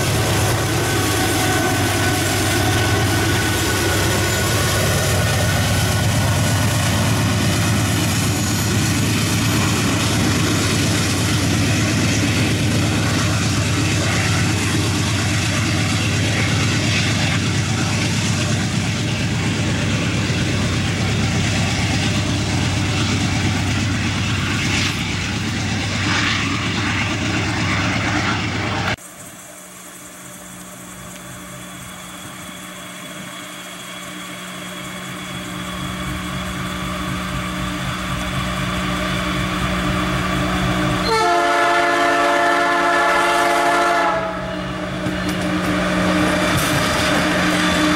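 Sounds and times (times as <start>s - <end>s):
diesel locomotive engine drone: 0.0s - 47.9s
distant locomotive engine: 0.0s - 47.9s.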